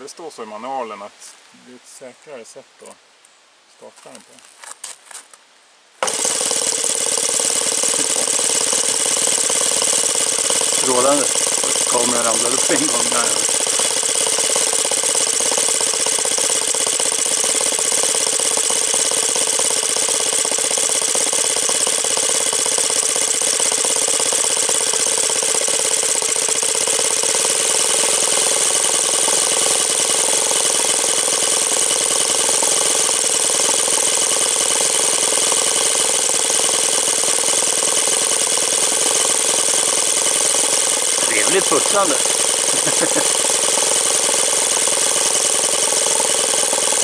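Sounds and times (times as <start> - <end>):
model aircraft engine running: 6.0 - 47.0.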